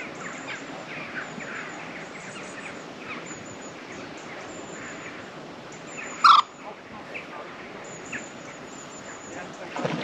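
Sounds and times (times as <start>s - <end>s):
small birds chirping: 0.0s - 9.7s
outdoor background hiss: 0.0s - 10.0s.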